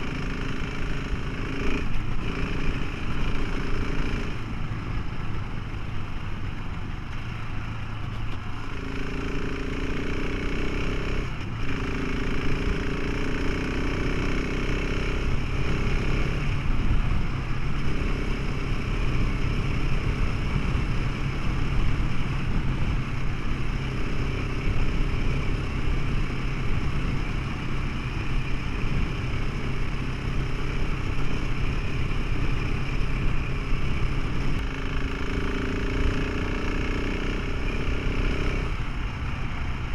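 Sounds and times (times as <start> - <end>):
continuous rushing noise: 0.0 - 39.9
motorcycle engine running: 0.0 - 39.9.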